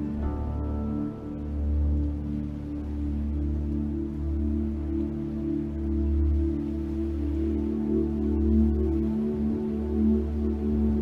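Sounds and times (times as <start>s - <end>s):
slow music of low held tones: 0.0s - 11.0s.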